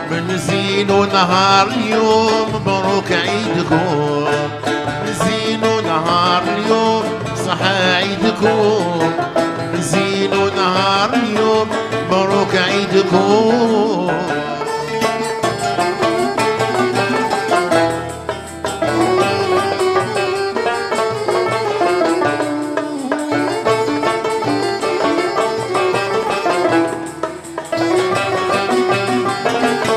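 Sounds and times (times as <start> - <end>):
man singing: 0.0 - 17.7, 18.8 - 27.0, 27.7 - 29.9
frame drum and goblet drum: 0.0 - 29.9
plucked string instruments: 0.0 - 29.9
violin: 0.0 - 29.9.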